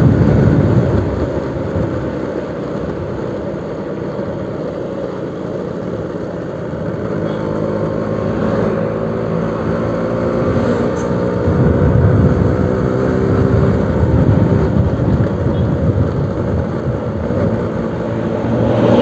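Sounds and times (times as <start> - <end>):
two-stroke motorcycle engine running: 0.0 - 18.6.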